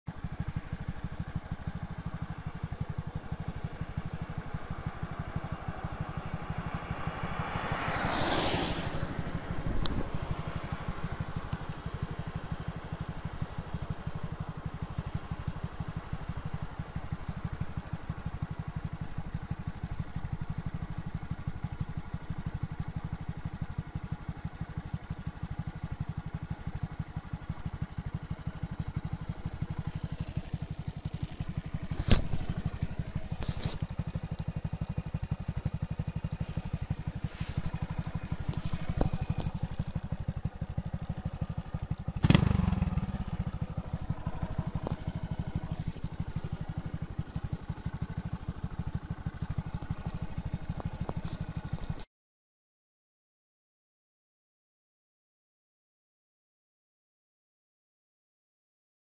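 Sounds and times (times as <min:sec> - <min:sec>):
motorcycle engine idling: 0:00.1 - 0:52.1.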